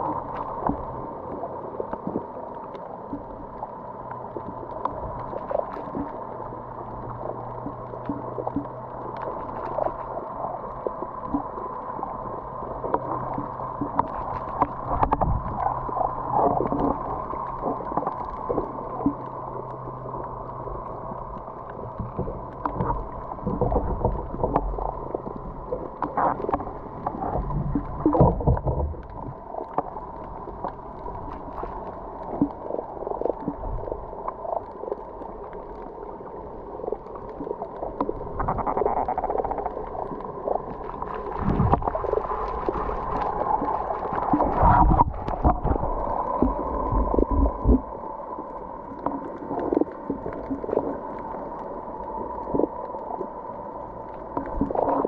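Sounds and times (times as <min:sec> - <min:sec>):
low underwater hum: 0:00.0 - 0:55.0
underwater knocks and crackles: 0:00.0 - 0:55.0.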